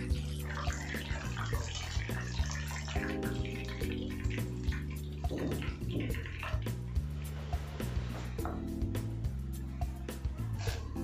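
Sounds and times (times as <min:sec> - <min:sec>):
background music with steady chords: 0:00.0 - 0:11.0.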